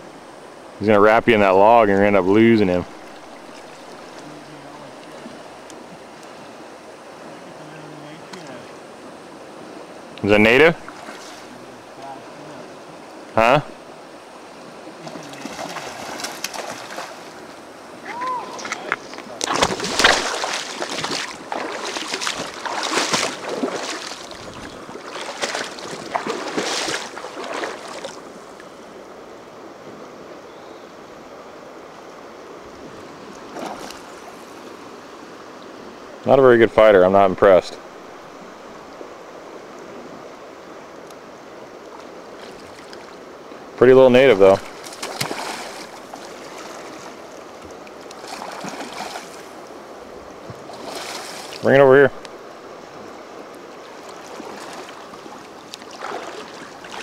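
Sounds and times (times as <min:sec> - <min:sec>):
river rushing: 0:00.0 - 0:57.0
water splashing and sloshing: 0:01.9 - 0:28.8, 0:32.6 - 0:36.0, 0:40.9 - 0:43.8, 0:44.4 - 0:57.0.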